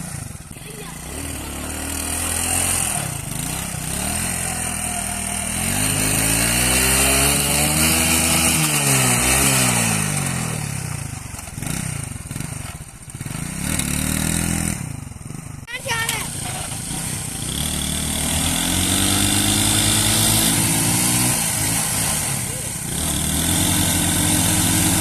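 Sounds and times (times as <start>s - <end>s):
small motorcycle engine revving: 0.0s - 25.0s.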